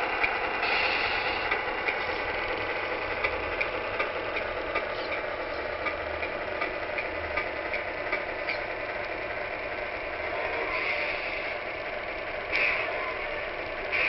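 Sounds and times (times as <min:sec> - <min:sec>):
toy truck mechanical hum: 0:00.0 - 0:14.0.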